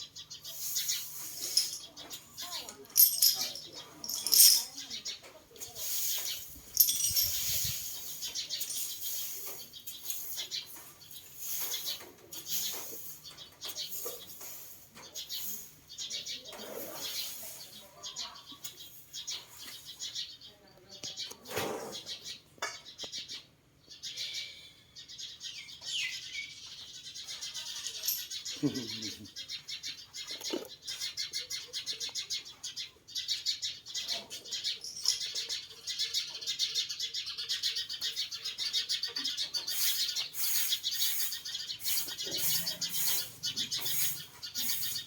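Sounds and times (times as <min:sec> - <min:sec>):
birds chirping chorus: 0:00.0 - 0:45.0.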